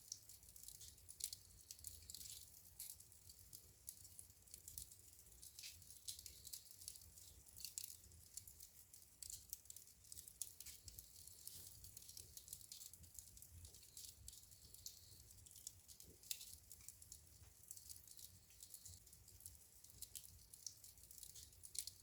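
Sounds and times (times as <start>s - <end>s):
firewood crackling: 0.1s - 22.0s.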